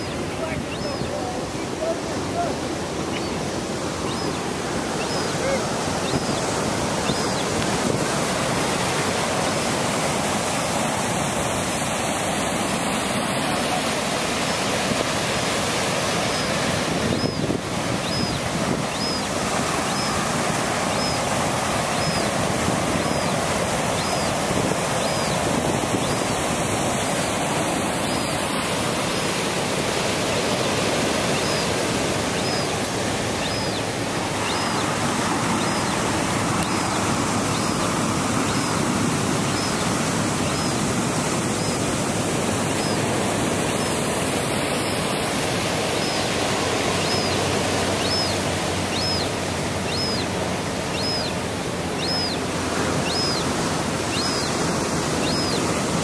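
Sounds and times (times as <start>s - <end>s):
gull begging cries: 0.0s - 8.3s, 16.1s - 29.4s, 30.0s - 56.0s
surf breaking over rocks: 0.0s - 56.0s.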